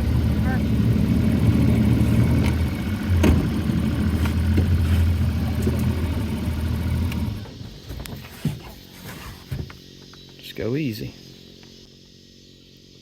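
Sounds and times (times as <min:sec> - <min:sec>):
outboard motor idling: 0:00.0 - 0:10.4.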